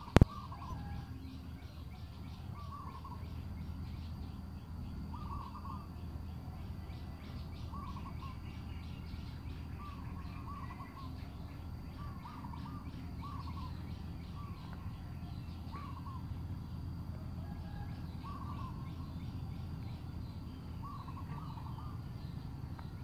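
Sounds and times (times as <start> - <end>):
birds calling: 0.0 - 23.0
steady low drone: 0.0 - 23.0.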